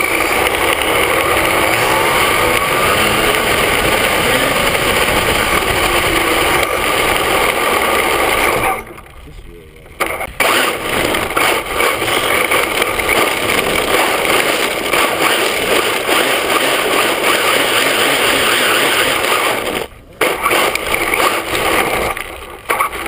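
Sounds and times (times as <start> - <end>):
toy truck driving over asphalt: 0.0 - 23.0.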